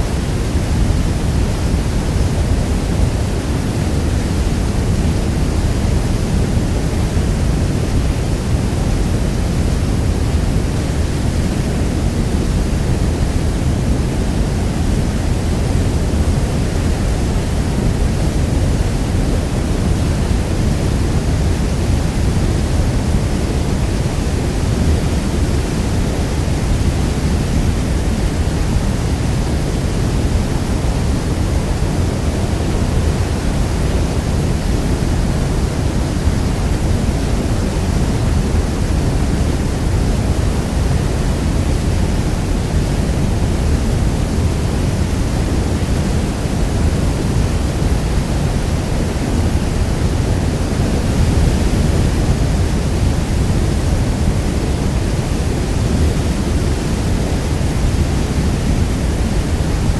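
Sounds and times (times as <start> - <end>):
waterfall thundering: 0.0 - 59.9.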